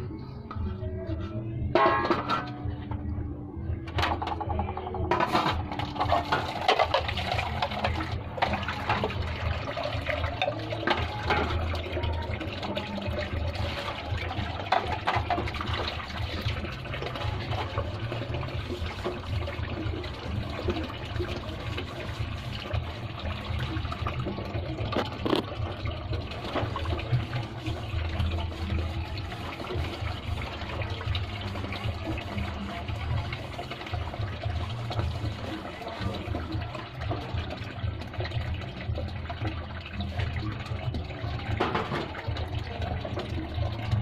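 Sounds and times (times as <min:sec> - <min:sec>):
water splashing into metal basin: 0:01.7 - 0:02.8, 0:03.9 - 0:44.0.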